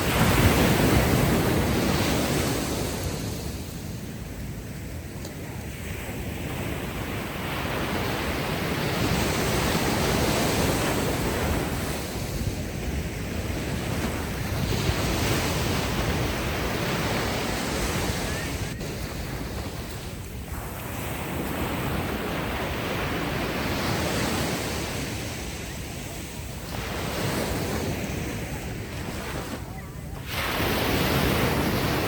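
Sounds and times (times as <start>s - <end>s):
ocean waves washing ashore: 0.0s - 32.0s
wind noise on microphone: 0.0s - 32.0s.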